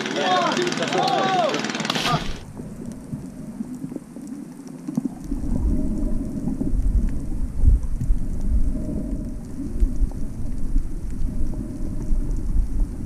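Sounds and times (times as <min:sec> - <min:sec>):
underwater bubbles and moving water: 0:00.0 - 0:13.0
deep churning rumble: 0:02.0 - 0:13.0.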